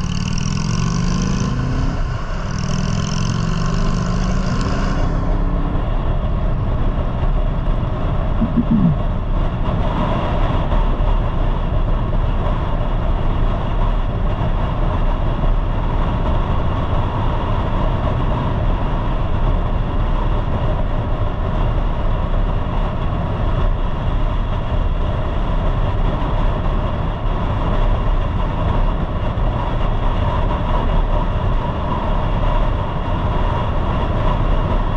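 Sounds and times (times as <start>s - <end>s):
motorcycle engine running: 0.0s - 34.9s
road noise: 0.0s - 34.9s.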